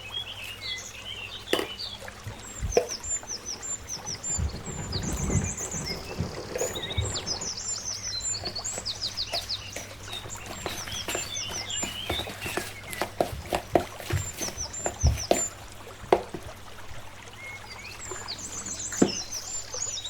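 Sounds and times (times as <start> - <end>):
small birds chirping: 0.0 - 16.5, 17.3 - 20.0.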